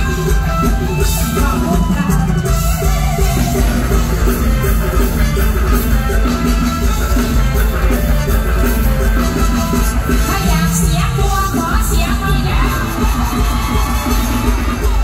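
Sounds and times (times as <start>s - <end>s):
drum kit beat: 0.0s - 15.0s
live band music over pa: 0.0s - 15.0s.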